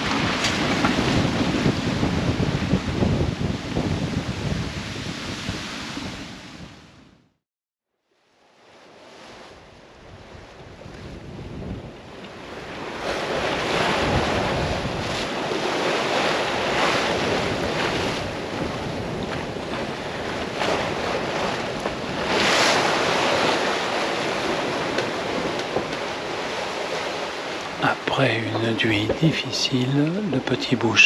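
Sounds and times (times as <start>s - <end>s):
water rushing past boat: 0.0s - 7.0s, 8.5s - 31.0s
wind buffeting microphone: 0.0s - 7.2s, 9.9s - 31.0s.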